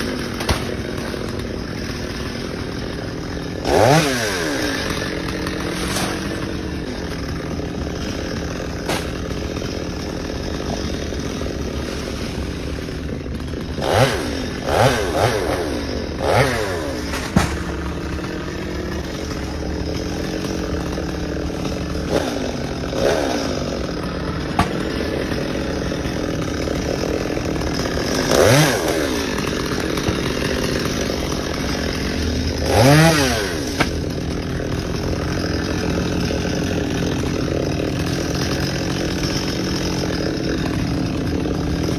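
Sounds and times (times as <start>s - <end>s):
chainsaw engine idling and revving: 0.0s - 41.9s.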